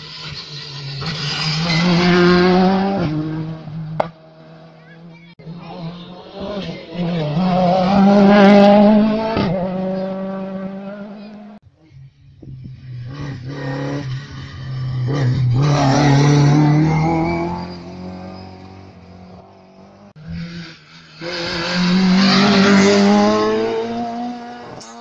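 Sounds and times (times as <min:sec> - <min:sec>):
rally car engine revving: 0:00.0 - 0:11.6, 0:12.4 - 0:25.0.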